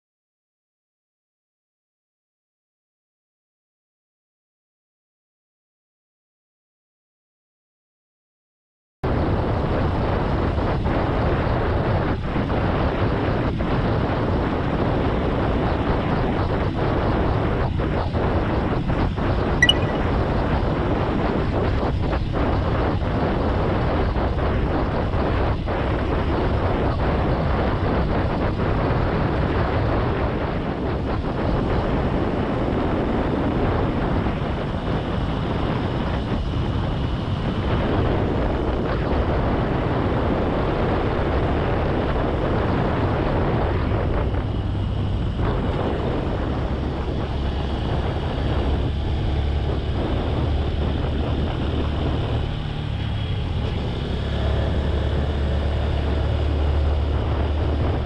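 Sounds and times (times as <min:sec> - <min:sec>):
wind rushing over microphone: 0:09.0 - 0:58.0.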